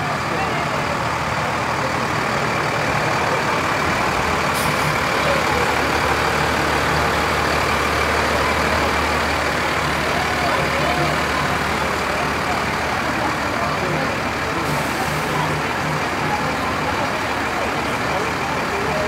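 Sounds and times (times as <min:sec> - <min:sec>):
fire engine diesel driving past: 0:00.0 - 0:19.0.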